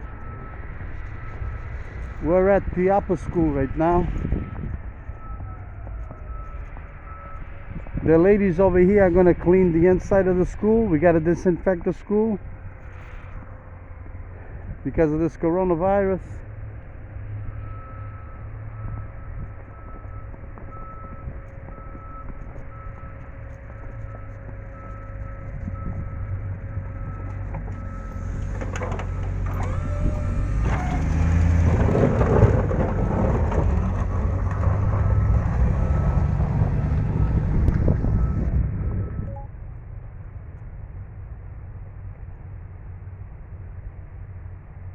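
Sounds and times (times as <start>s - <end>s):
plow scraping rumble: 0.0s - 39.4s
snow plow engine rumbling: 0.0s - 44.9s.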